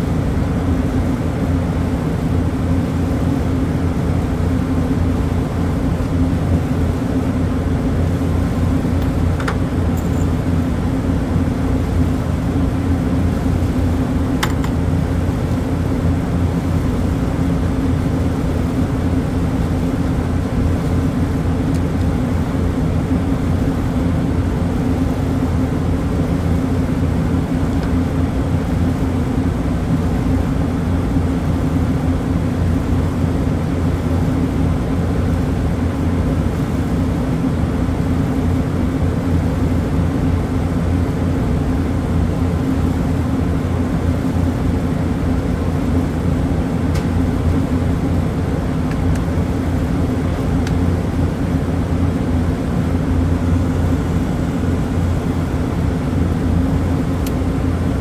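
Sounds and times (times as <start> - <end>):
refrigeration compressors humming: 0.0 - 58.0.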